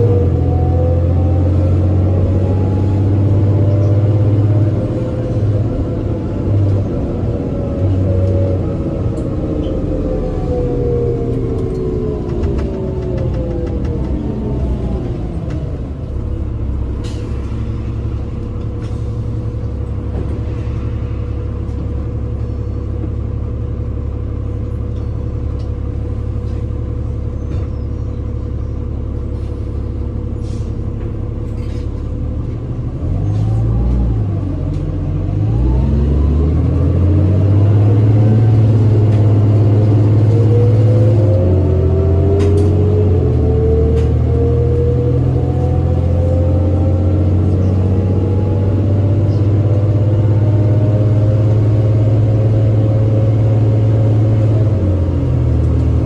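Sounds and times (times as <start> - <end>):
bus engine and drivetrain: 0.0 - 56.0.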